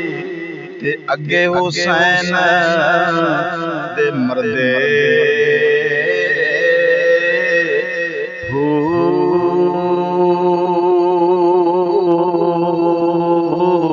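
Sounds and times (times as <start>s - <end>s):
person chanting long notes: 0.0s - 13.9s.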